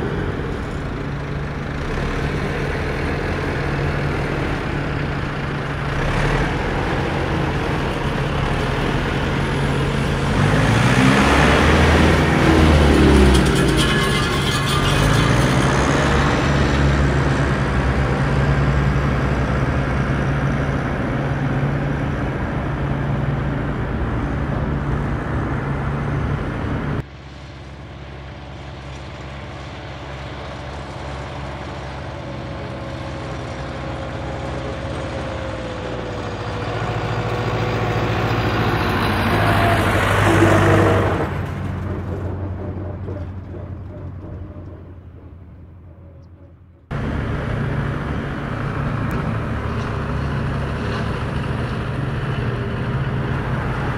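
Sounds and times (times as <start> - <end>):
vehicle passing by: 0.0 - 27.1, 32.8 - 53.9
engine running with low hum: 0.0 - 53.9.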